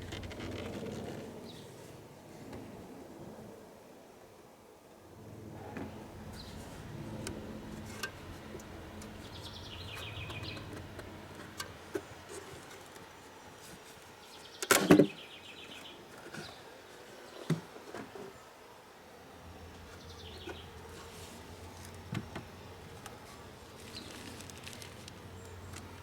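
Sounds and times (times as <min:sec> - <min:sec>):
honey bees buzzing: 0:05.1 - 0:26.0.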